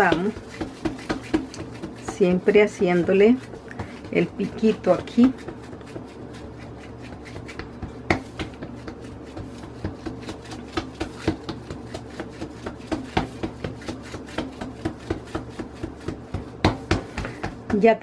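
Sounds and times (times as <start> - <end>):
hand patting dough: 0.0 - 18.0
low steady hum: 0.0 - 18.0.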